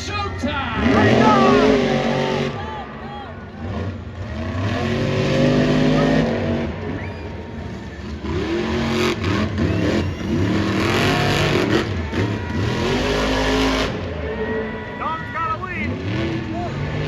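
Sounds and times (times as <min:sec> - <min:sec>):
truck engines revving hard: 0:00.0 - 0:17.0.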